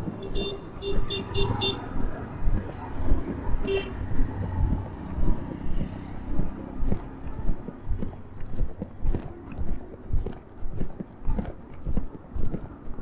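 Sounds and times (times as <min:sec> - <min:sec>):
city street traffic hum: 0:00.0 - 0:13.0
footsteps on pavement: 0:00.0 - 0:13.0.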